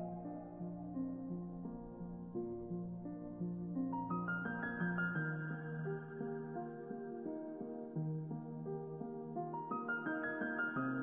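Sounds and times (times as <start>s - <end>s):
gentle keyboard melody: 0.0s - 11.0s.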